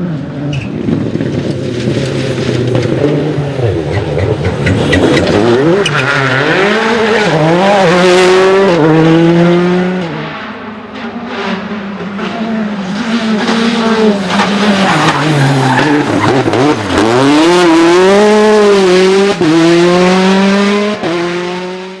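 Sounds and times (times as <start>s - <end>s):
rally car engine at full load: 0.0s - 22.0s
tyres skidding: 0.1s - 21.4s.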